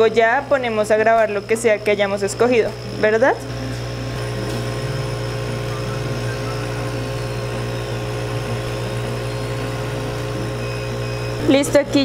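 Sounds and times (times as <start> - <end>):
faint steady whines: 0.0 - 12.0
laser cutter humming: 0.0 - 12.0.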